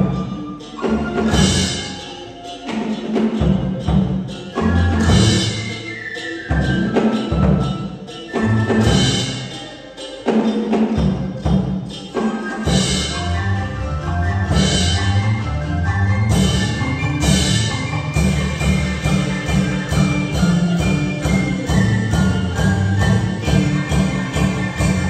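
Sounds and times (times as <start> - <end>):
percussion accented strokes: 0.0 - 25.0
traditional ensemble music: 0.0 - 25.0.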